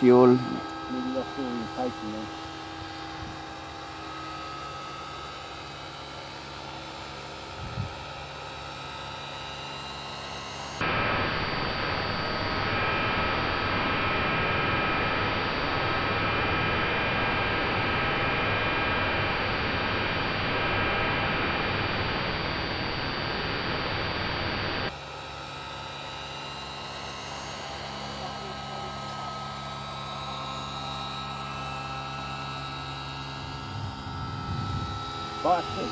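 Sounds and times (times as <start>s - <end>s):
high whining tones: 0.0s - 24.9s, 26.0s - 35.9s
model helicopter rotor drone: 0.0s - 35.9s.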